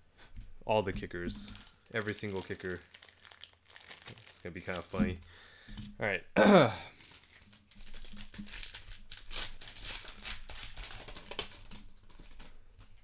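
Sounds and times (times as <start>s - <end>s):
plastic wrapper crinkling: 0.8s - 5.4s, 6.9s - 13.0s.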